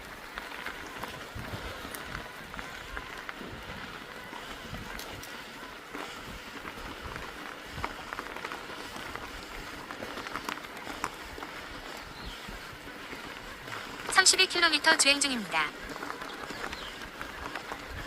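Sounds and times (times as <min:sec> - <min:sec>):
bike clicks and rattles: 0:00.0 - 0:18.0
wind and tyre noise: 0:00.0 - 0:18.0.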